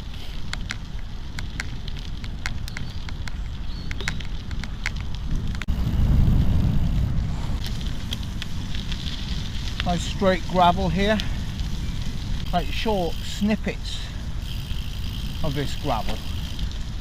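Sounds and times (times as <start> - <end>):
stones crackling under tyres: 0.0 - 17.0
tyre and wind rumble: 0.0 - 17.0.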